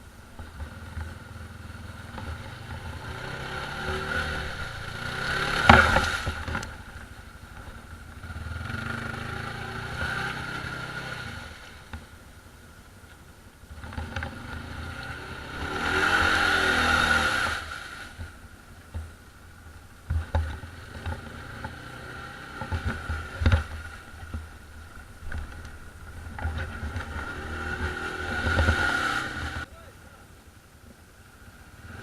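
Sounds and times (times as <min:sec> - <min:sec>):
quad bike engines revving: 0:00.0 - 0:12.0, 0:13.7 - 0:18.4, 0:20.1 - 0:29.7, 0:31.7 - 0:32.0.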